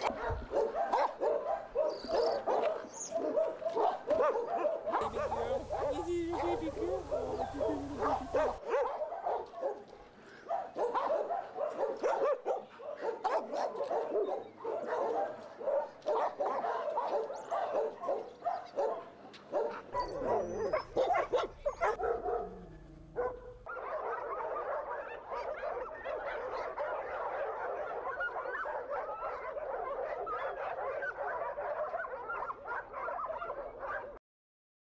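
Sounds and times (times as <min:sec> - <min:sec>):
dogs barking: 0:00.0 - 0:34.2.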